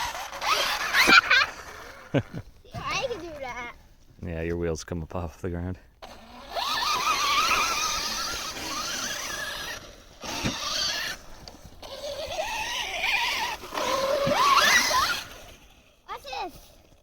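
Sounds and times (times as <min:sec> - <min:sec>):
toy truck motor whining: 0:00.0 - 0:03.7, 0:06.0 - 0:17.0.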